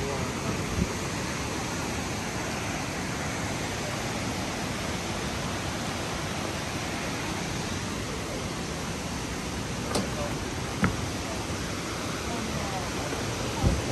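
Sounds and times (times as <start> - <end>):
river rushing over boulders: 0.0 - 13.9.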